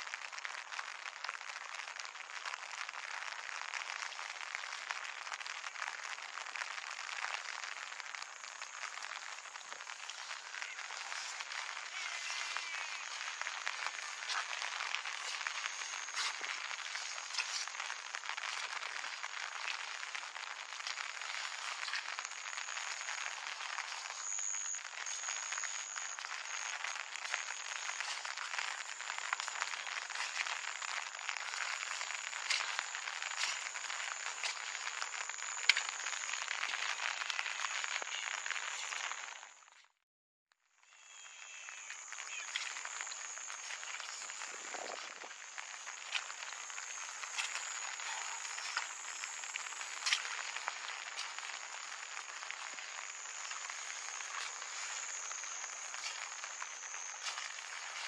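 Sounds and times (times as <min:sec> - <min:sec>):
steady rain patter: 0:00.0 - 0:39.8, 0:40.8 - 0:58.0.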